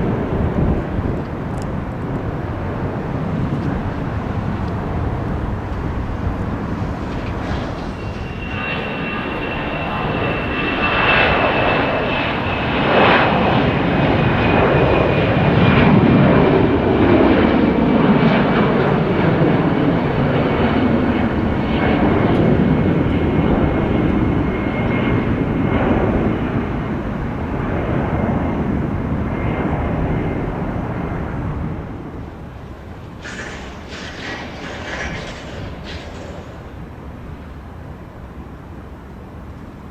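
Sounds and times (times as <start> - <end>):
jet airliner engines roaring: 0.0 - 39.9.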